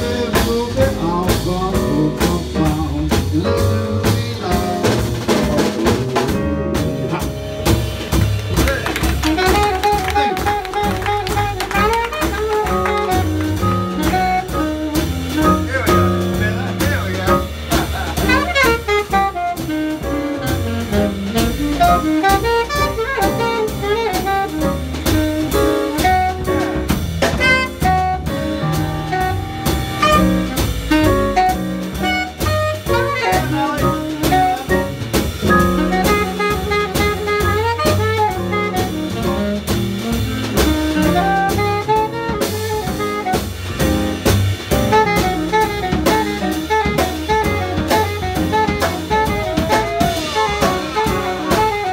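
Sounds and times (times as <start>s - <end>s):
drum kit played with sticks: 0.0s - 51.9s
walking upright bass: 0.0s - 51.9s
saxophone solo: 3.5s - 51.9s.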